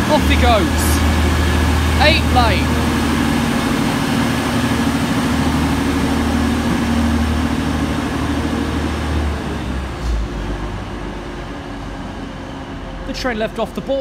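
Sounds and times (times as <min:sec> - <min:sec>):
diesel train engines under power: 0:00.0 - 0:14.0.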